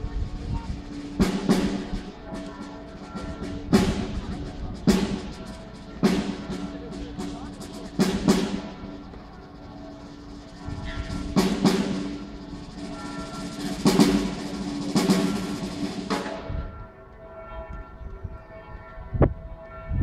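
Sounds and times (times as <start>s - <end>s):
heavy drum beats: 0.0s - 16.8s
steady held notes: 0.0s - 20.0s.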